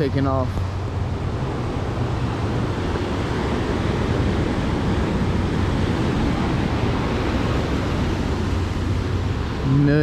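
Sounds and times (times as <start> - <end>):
boat engines rumbling: 0.0 - 10.0
rushing water: 0.0 - 10.0
wind buffeting microphone: 0.0 - 10.0.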